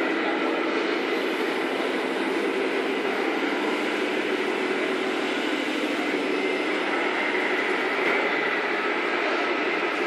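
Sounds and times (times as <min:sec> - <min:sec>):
model trucks humming: 0:00.0 - 0:10.0.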